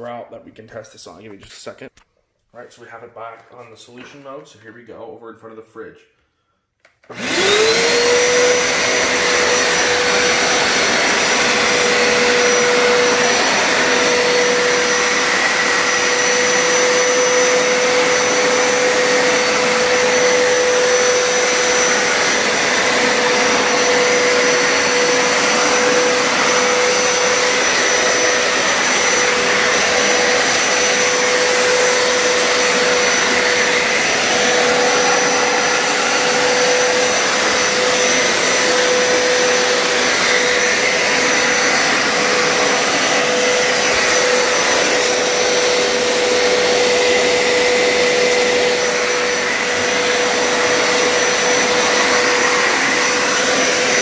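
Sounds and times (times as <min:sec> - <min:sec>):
carpet cleaner motor whining: 0:07.0 - 0:54.0.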